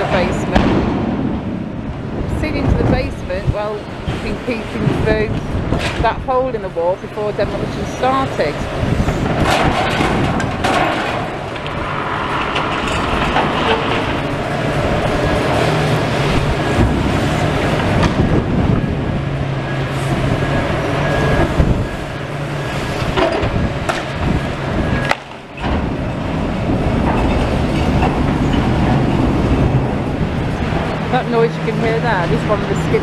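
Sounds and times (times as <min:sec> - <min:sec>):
truck rumble and hum: 0:00.0 - 0:33.0.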